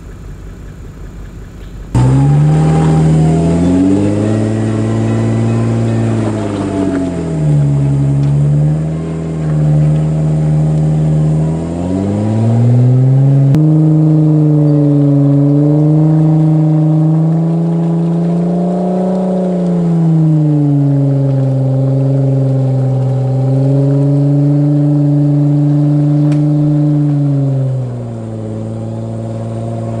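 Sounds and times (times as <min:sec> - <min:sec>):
off-road vehicle engine revving: 0:01.8 - 0:30.0.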